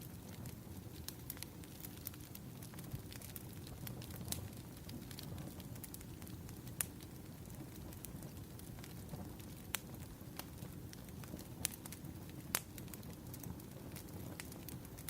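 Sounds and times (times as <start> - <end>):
fire popping and snapping: 0.0 - 15.0
firewood crackling: 0.0 - 15.0.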